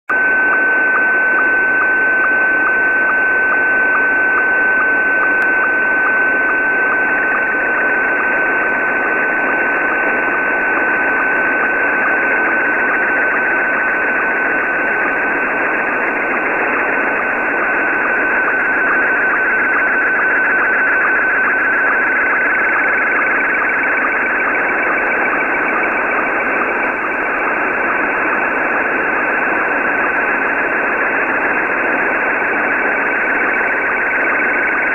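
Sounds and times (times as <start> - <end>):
warbling signal whistle with blips: 0.1 - 34.9.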